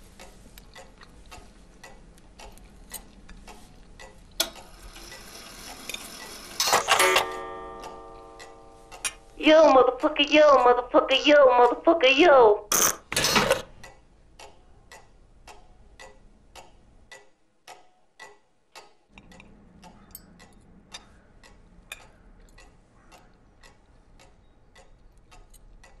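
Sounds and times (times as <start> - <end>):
cuckoo clock ticking: 0.0 - 12.7, 13.7 - 26.0.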